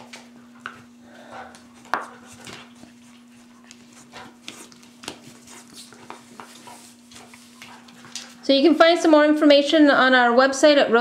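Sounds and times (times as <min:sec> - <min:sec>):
paws and claws on hard floor: 0:00.0 - 0:09.1
faint steady hum: 0:00.0 - 0:11.0.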